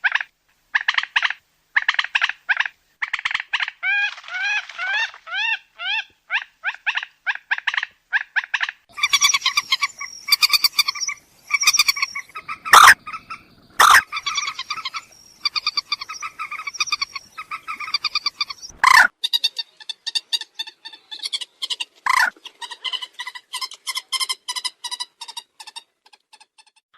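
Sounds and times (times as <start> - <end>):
moorhen calls: 0.8 - 25.8.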